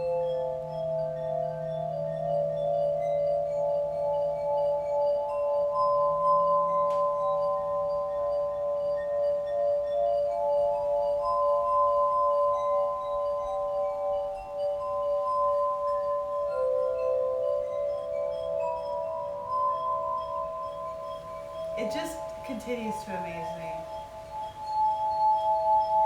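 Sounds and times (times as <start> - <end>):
crystal lyre tones: 0.0 - 26.0.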